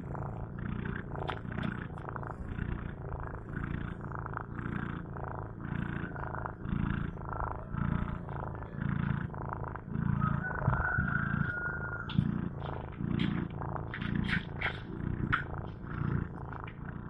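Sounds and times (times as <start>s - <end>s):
cat snoring: 0.0s - 17.0s.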